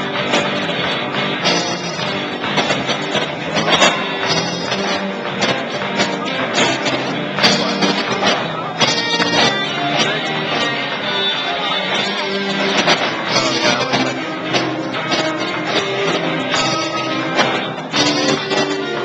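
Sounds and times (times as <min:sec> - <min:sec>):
electric guitar: 0:00.0 - 0:19.0
rock band playing live: 0:00.0 - 0:19.0.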